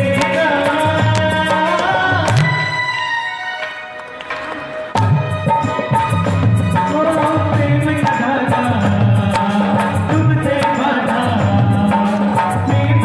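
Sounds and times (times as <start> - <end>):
devotional music with drum beat: 0.0 - 13.0.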